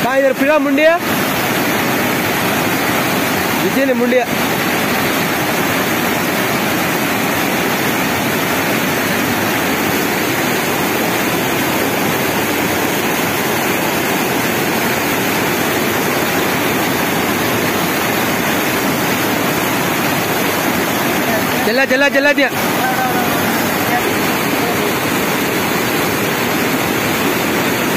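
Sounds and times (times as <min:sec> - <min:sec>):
white water rushing: 0:00.0 - 0:27.9.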